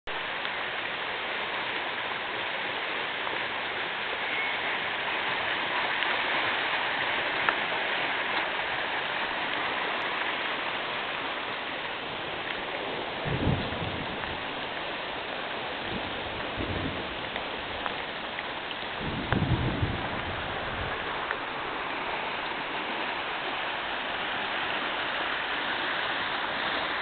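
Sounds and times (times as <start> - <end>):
floodwater rushing: 0.1 - 27.0.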